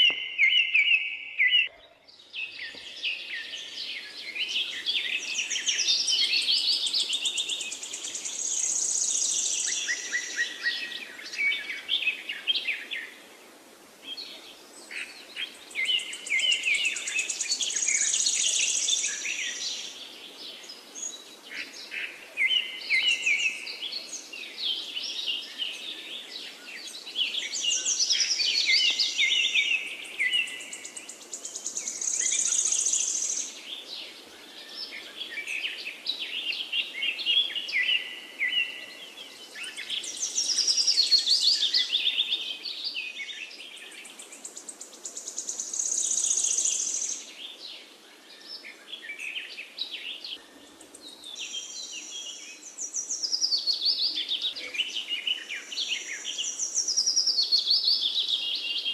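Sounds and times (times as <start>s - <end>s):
forest background hiss: 0.0s - 58.9s
songbirds chirping and trilling: 0.0s - 58.9s.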